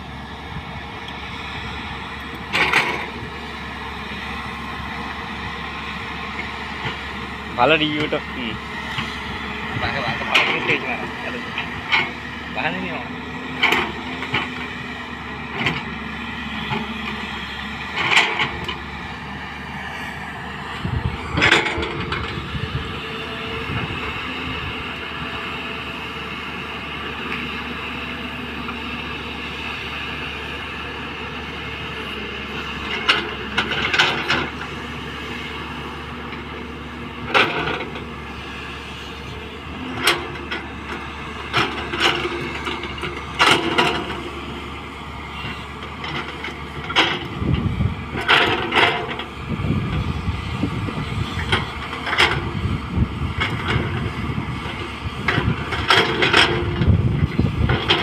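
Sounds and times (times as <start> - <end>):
excavator engine drone: 0.0 - 58.0.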